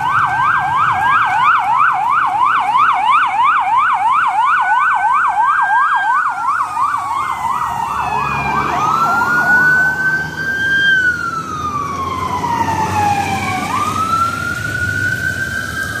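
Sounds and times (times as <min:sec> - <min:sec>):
siren fast yelp: 0:00.0 - 0:16.0
sirens wailing: 0:00.0 - 0:16.0.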